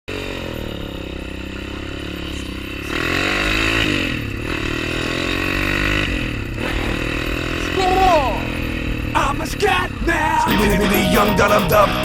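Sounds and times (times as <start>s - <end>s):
motorcycle engine revving: 0.1s - 12.0s.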